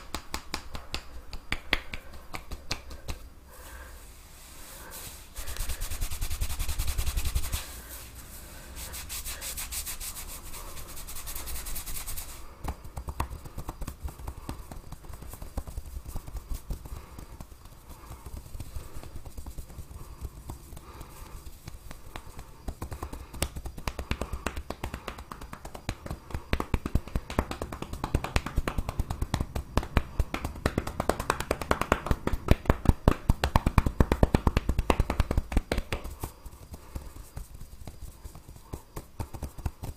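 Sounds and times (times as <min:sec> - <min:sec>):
rapid tapping and slapping on head: 0:00.0 - 0:03.3, 0:05.4 - 0:07.8, 0:09.0 - 0:39.9
hair rubbed against scalp: 0:03.9 - 0:39.9.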